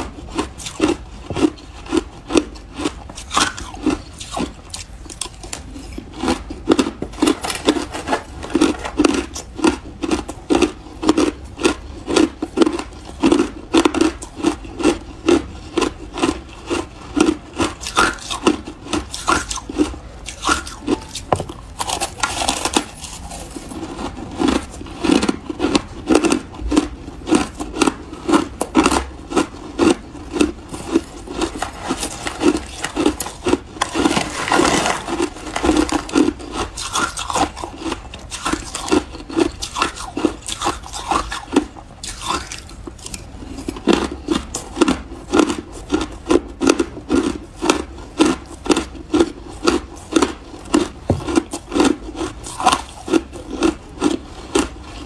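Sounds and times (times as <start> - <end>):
chewing ice crunches: 0.0 - 55.0.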